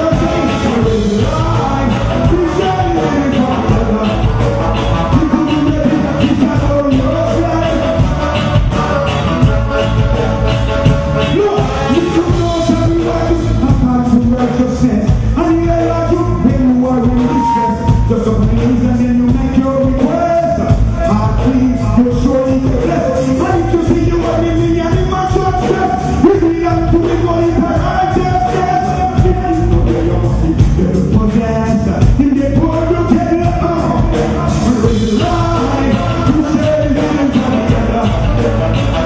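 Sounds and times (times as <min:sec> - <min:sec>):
man singing into a microphone: 0:00.0 - 0:08.3, 0:11.2 - 0:39.0
reggae band playing: 0:00.0 - 0:39.0.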